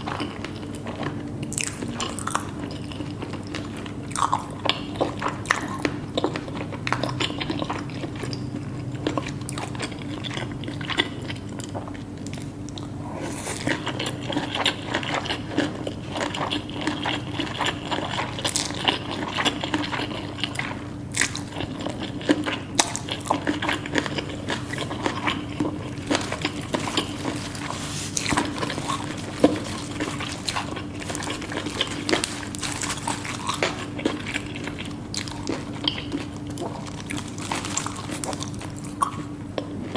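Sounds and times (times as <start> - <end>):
faint steady hum: 0.0 - 39.9
person crunching and chewing food: 0.0 - 39.9.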